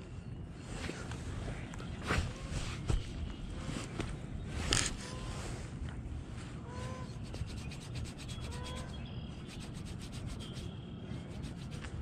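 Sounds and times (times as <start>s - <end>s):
hands rustling against microphone: 0.7s - 12.0s.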